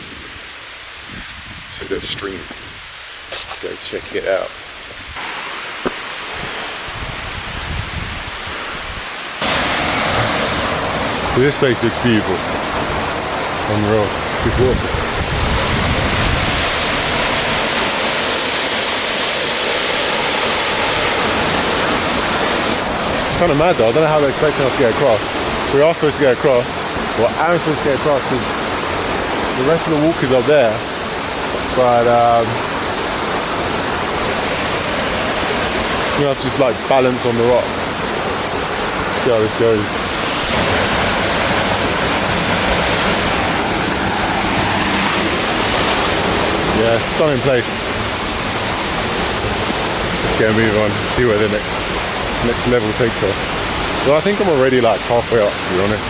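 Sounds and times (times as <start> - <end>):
waterfall rushing: 5.2 - 56.0.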